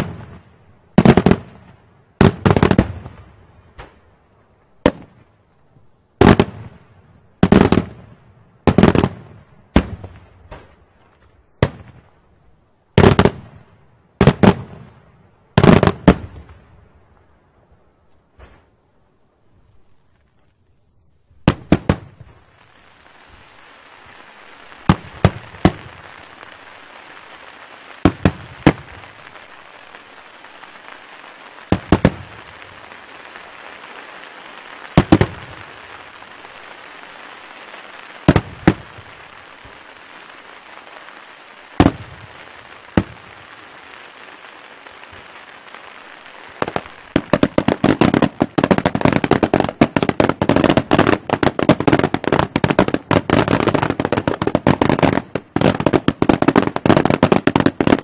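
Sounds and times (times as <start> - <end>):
fireworks bangs: 0.0 - 4.1, 4.8 - 5.3, 6.2 - 12.2, 12.9 - 16.9, 18.3 - 18.8, 21.4 - 58.0
firework crackles: 0.0 - 19.4, 21.3 - 58.0
steady hiss: 0.0 - 58.0.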